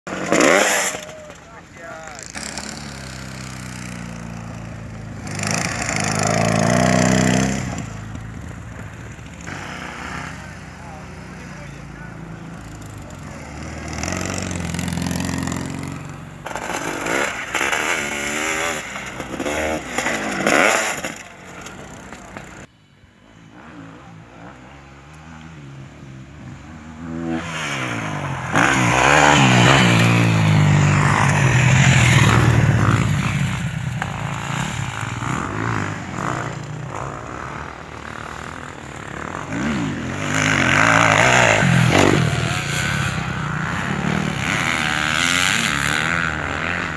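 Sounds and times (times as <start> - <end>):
motorcycle engines revving: 0.0 - 46.9.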